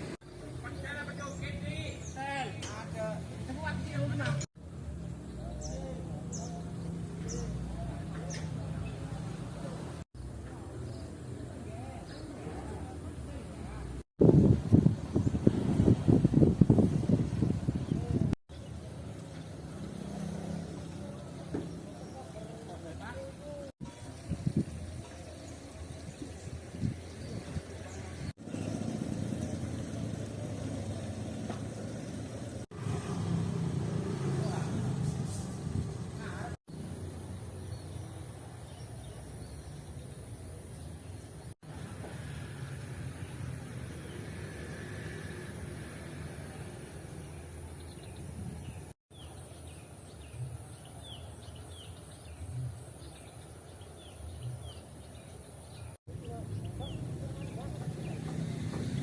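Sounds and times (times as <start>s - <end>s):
low engine rumble: 0.0s - 49.0s, 56.1s - 59.0s.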